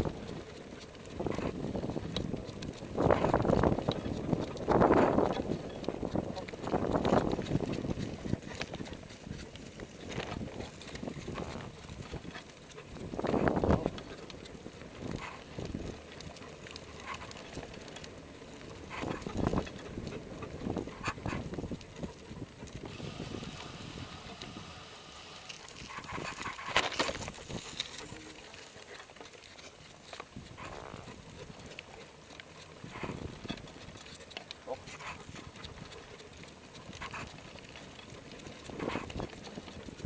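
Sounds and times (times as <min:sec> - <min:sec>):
bicycle knocking and rattling: 0:00.0 - 0:40.0
bicycle tyres rolling: 0:00.0 - 0:40.0.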